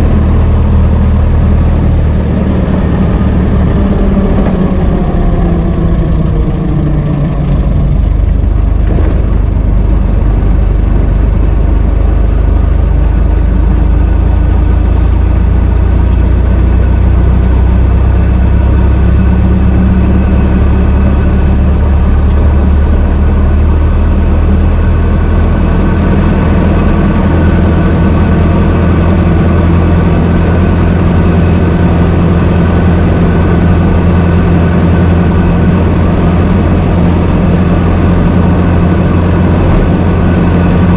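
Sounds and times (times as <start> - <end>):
car engine running at low revs: 0.0 - 40.9.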